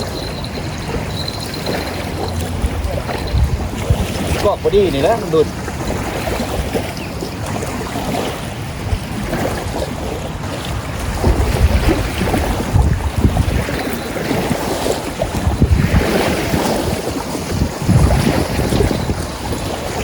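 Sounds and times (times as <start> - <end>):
choppy river water: 0.0 - 20.0
wind buffeting microphone: 0.0 - 20.0.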